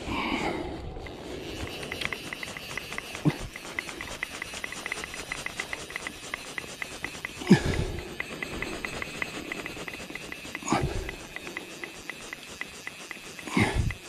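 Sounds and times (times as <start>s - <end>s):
fly reel ratchet clicking: 0.9s - 14.0s.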